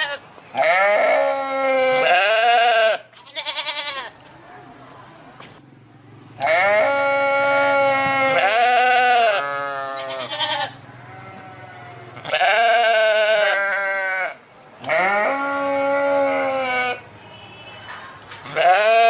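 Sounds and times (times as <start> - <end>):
sheep bleating: 0.0 - 4.2, 6.4 - 17.0, 18.4 - 19.0.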